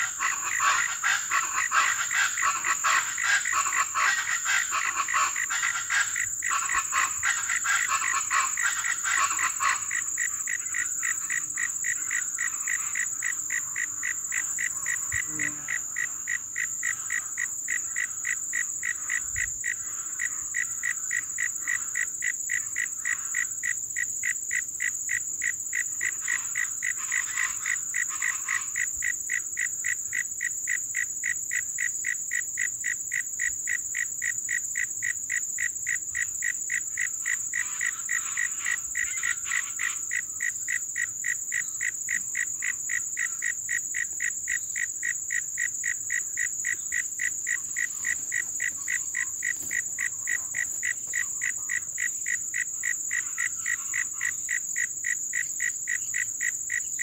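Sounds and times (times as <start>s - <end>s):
frog chorus pulsing: 0.0s - 57.0s
high-pitched insect drone: 0.0s - 57.0s.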